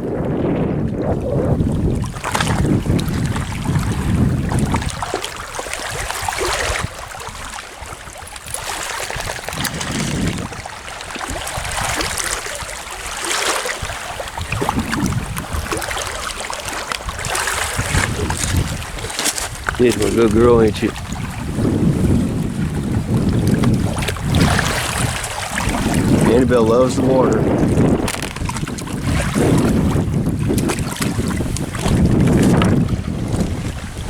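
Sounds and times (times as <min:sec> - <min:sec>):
lake water splashing: 0:00.0 - 0:34.0
wind buffeting microphone: 0:00.0 - 0:34.0.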